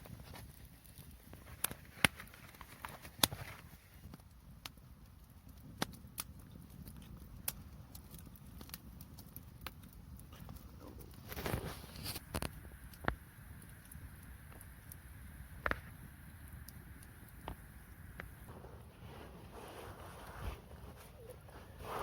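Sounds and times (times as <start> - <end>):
sharp crackles and pops: 0.0 - 22.0.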